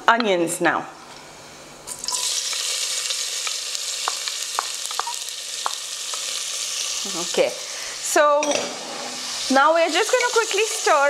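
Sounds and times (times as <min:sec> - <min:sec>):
onions sizzling in hot oil: 0:01.9 - 0:11.0.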